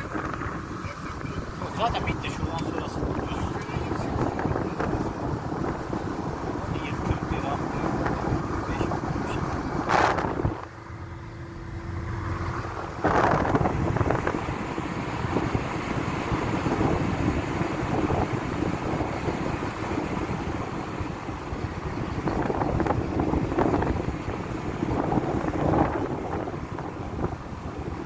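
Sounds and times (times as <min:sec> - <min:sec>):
road noise: 0:00.0 - 0:28.0
wind noise: 0:00.0 - 0:28.0.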